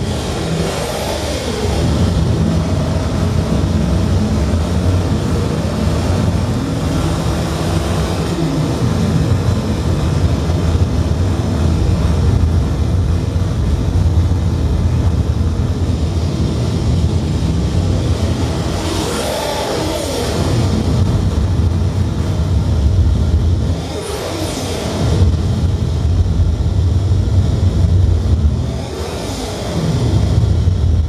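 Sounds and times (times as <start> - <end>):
low rumbling drone: 0.0 - 23.8, 24.8 - 28.9, 29.7 - 31.0.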